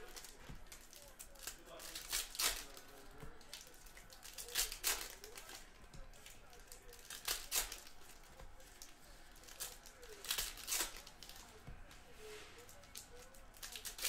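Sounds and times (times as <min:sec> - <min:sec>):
plastic wrapping crinkling and tearing: 0:00.0 - 0:11.6, 0:12.6 - 0:14.0.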